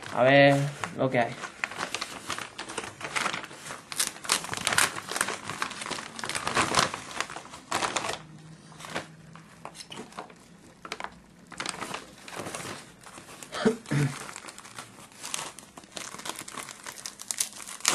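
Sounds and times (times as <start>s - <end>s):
plastic mailer crinkling: 0.0s - 17.9s.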